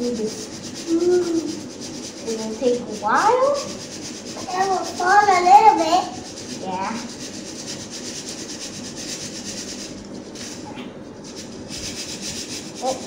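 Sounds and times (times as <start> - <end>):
steel sieve rattling and hissing: 0.0 - 13.0.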